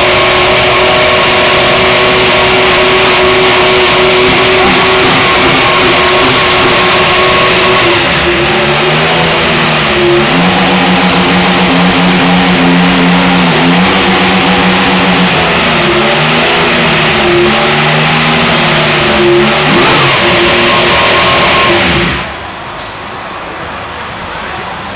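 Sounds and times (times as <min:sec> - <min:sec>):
racing car engine running loudly: 0:00.0 - 0:23.4.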